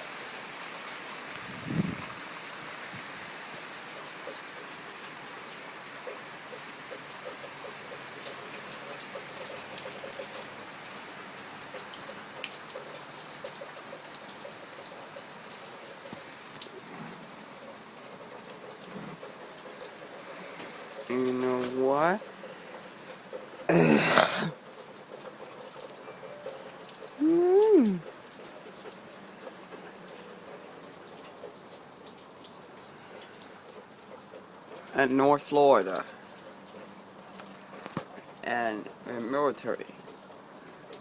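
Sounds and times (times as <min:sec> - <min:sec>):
steady rain falling: 0:00.0 - 0:41.0
raindrops ticking: 0:03.5 - 0:41.0.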